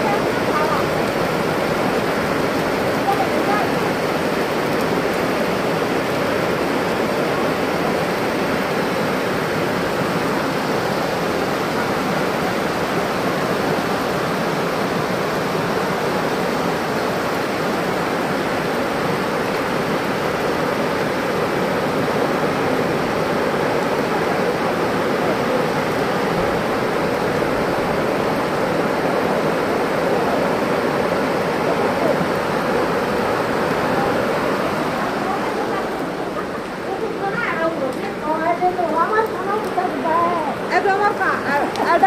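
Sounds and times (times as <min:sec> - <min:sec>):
floodwater rushing: 0:00.0 - 0:42.0.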